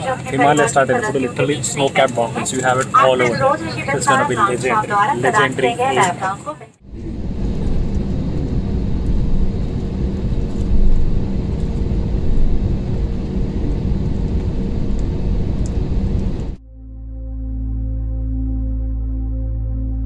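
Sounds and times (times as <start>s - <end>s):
faint steady hum: 0.0s - 16.6s
low rumble of jet engines: 0.0s - 16.6s.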